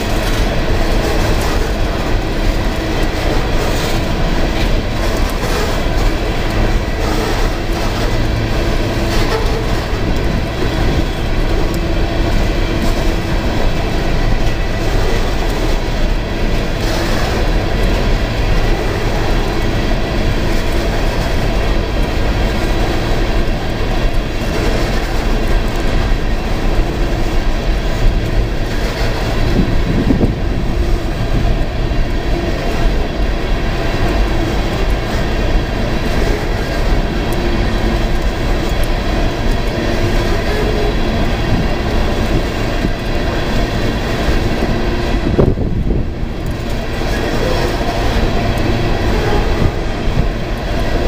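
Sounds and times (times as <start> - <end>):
freight train wheels on rail: 0.0 - 51.0.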